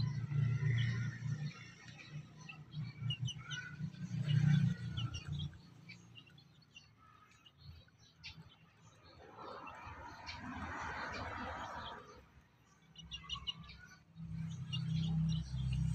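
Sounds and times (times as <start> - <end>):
chicks peeping: 0.0 - 12.0, 12.9 - 15.9.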